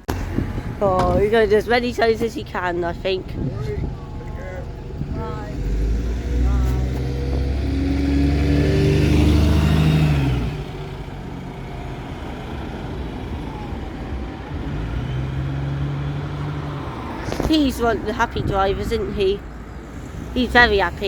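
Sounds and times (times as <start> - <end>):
bus engine pulling away: 0.0 - 21.0.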